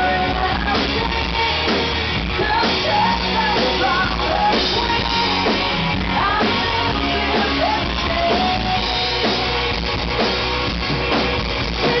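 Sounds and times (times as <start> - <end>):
woman singing: 0.0 - 10.1, 11.5 - 12.0
live rock band playing: 0.0 - 12.0.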